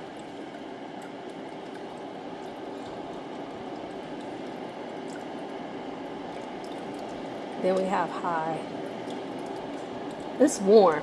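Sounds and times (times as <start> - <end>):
heater fan blowing: 0.0 - 11.0.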